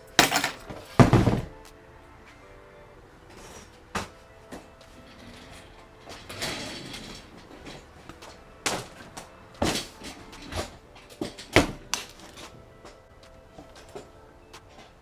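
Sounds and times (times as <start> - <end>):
things being handled knocking: 0.2 - 1.7, 3.3 - 15.0.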